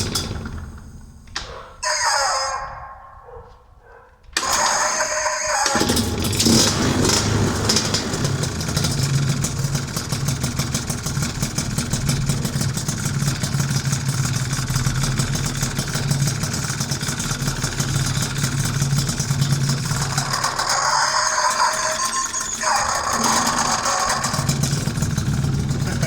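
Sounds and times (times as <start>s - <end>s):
two-stroke scooter engine running: 0.0s - 1.6s, 4.4s - 26.0s.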